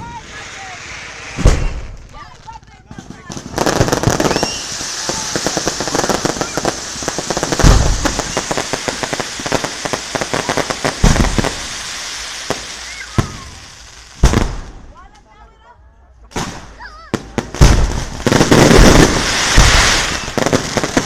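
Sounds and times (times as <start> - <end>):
fireworks booms: 0.0 - 15.0, 16.3 - 21.0
fireworks crackling: 0.0 - 15.4, 16.3 - 21.0.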